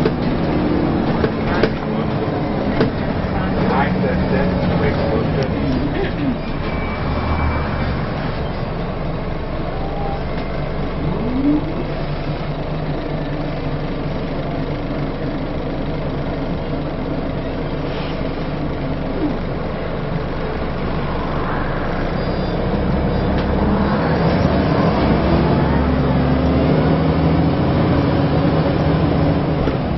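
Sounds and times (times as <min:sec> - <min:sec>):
bus engine rumble: 0:00.0 - 0:29.9.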